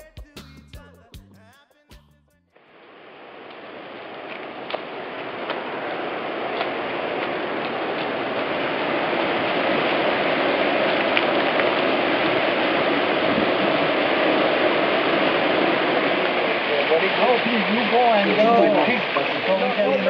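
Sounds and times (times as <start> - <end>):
waterfall rushing: 3.7 - 20.0.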